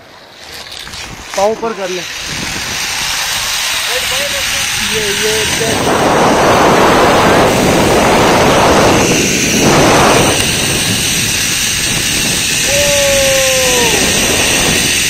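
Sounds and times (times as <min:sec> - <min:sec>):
zipline pulleys running on cable: 0:00.0 - 0:15.0
wind rushing over microphone: 0:00.8 - 0:15.0.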